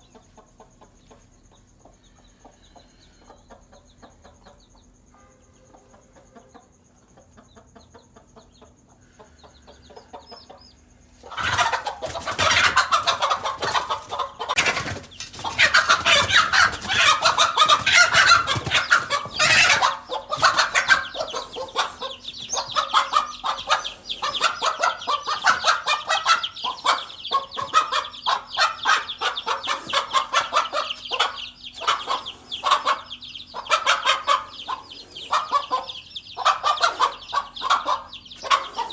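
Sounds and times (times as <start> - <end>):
hen clucking and cackling: 5.7 - 38.9.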